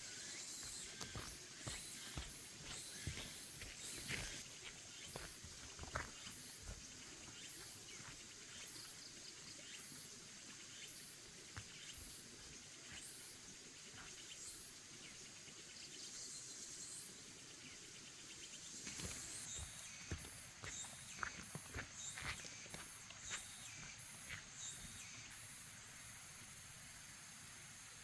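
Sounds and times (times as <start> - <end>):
insects chirping: 0.0 - 14.8, 18.7 - 28.0
faint rural background noise: 0.0 - 28.0.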